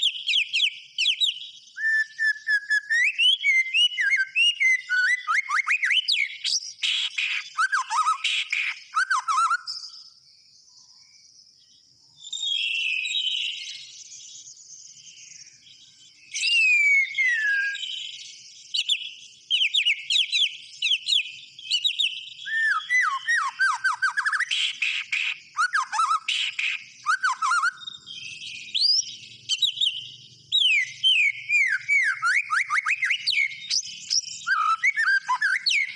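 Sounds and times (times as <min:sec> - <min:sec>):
bird singing whistled phrases: 0:00.0 - 0:10.2, 0:12.2 - 0:35.9.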